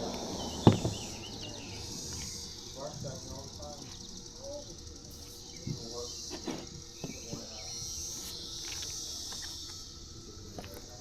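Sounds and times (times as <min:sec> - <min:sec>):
cicadas buzzing: 0:00.0 - 0:11.0
faint distant voices: 0:00.0 - 0:11.0.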